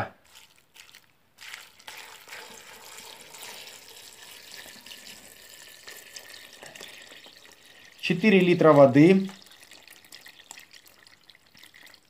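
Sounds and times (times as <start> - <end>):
water pouring into metal pot: 0.3 - 12.0.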